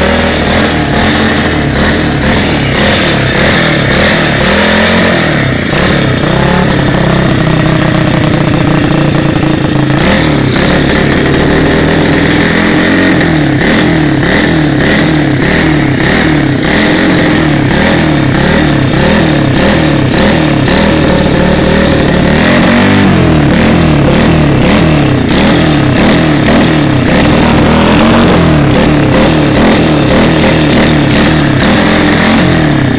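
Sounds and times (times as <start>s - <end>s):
motorbike engine revving: 0.0s - 32.9s.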